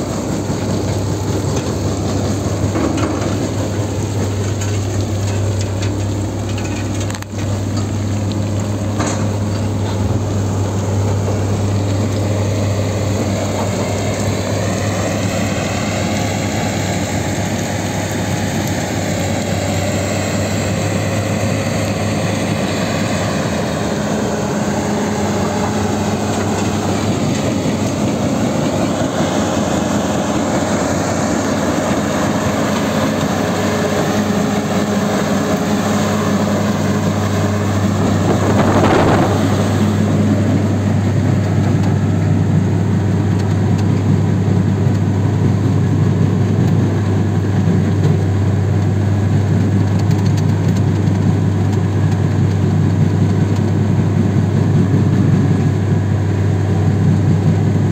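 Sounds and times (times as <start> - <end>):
diesel engine hum: 0.0 - 57.9.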